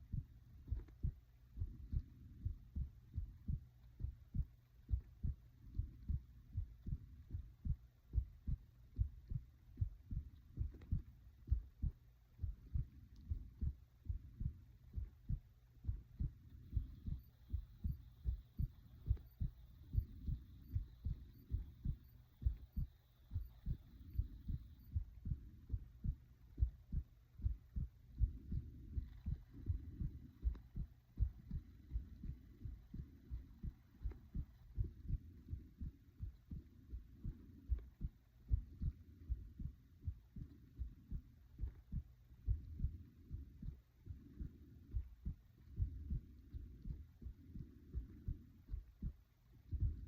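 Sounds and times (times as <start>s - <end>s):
heart beating: 0.0s - 50.0s.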